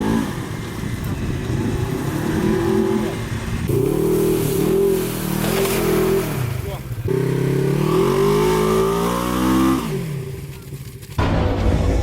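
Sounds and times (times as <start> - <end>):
buggy engine revving: 0.0 - 11.2.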